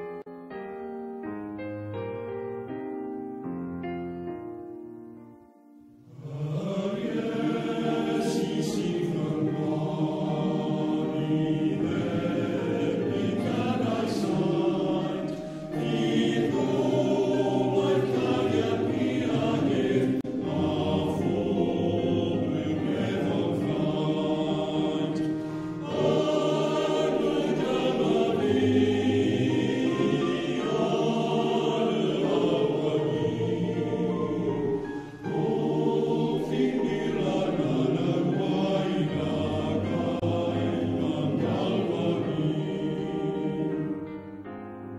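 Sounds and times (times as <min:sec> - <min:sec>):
male voice choir singing: 0:06.1 - 0:44.0.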